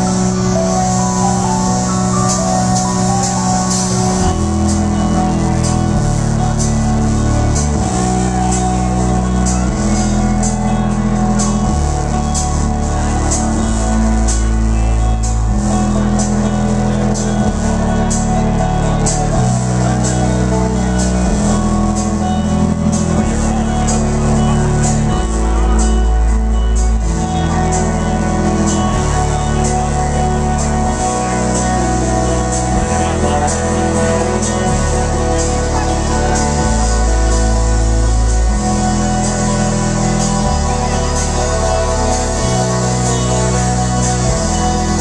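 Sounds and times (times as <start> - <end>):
heavy bass line: 0.0 - 45.0
live rock band playing: 0.0 - 45.0.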